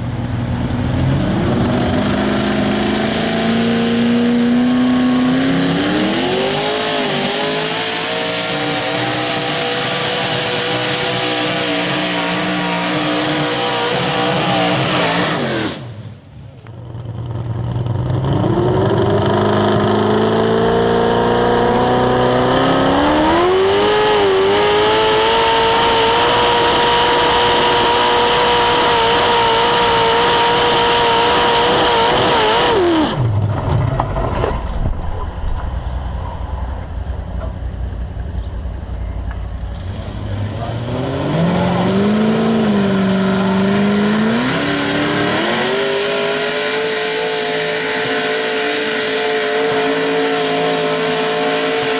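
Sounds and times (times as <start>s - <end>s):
tractor engine revving: 0.0s - 51.9s.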